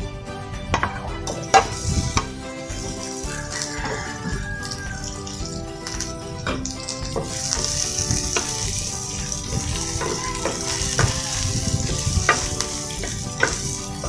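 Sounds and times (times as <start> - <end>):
wooden spatula scraping pan: 0.8 - 14.0
food sizzling in hot oil: 1.3 - 14.0.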